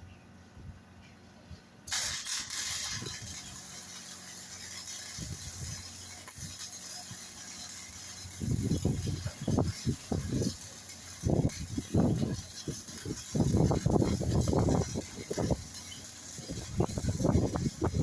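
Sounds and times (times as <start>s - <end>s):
welding arc crackling and hissing: 1.9s - 18.0s.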